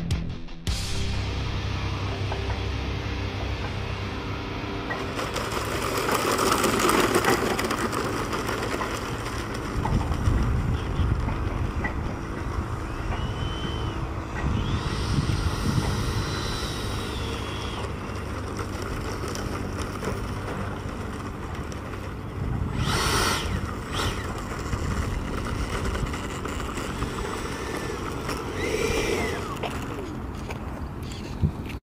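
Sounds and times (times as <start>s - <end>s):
steady low rumble: 0.7s - 31.6s
electric fan whine: 0.8s - 31.8s
rushing whoosh of throttle bursts: 3.8s - 31.0s.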